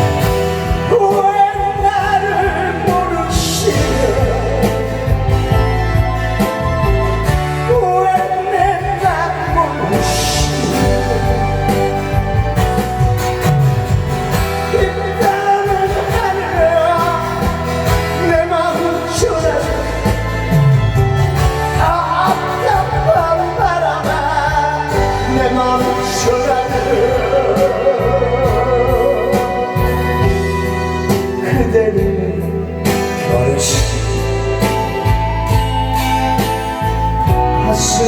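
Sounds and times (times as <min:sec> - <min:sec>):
instrumental backing music: 0:00.0 - 0:38.0
person singing: 0:00.0 - 0:38.0.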